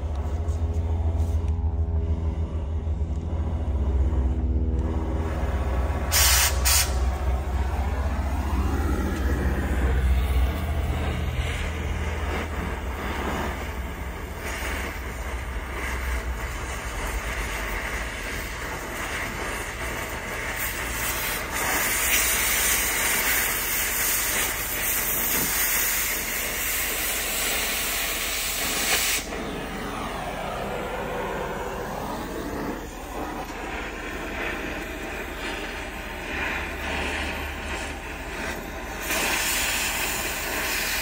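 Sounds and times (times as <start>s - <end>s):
cutting torch hissing: 3.5s - 41.0s.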